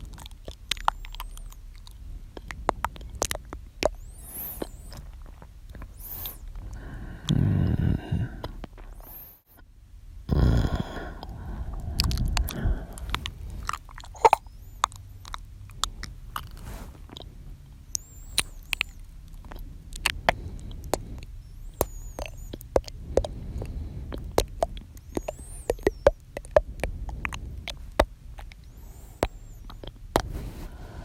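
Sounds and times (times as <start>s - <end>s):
wet mouth clicks and smacks: 0.0s - 7.8s, 11.2s - 30.3s.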